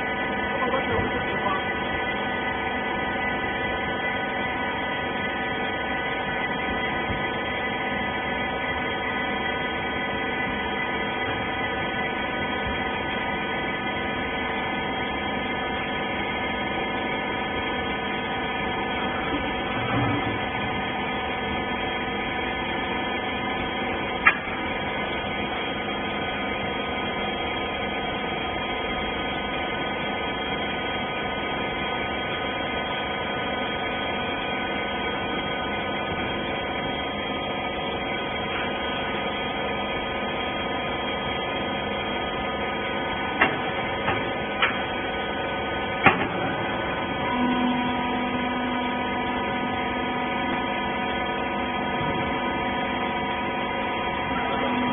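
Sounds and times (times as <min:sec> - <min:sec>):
baling press pump humming: 0:00.0 - 0:54.9.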